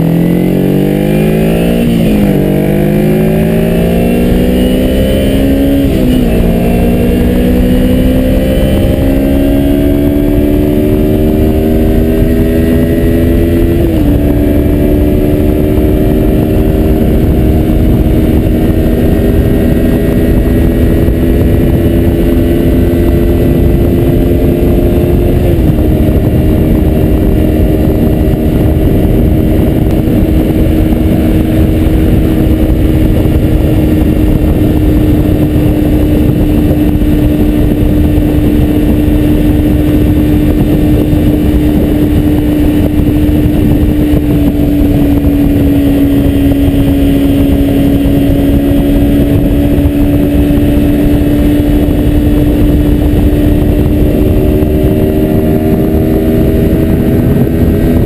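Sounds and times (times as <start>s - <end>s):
motorcycle engine accelerating: 0.0s - 58.0s
wind on microphone: 0.0s - 58.0s.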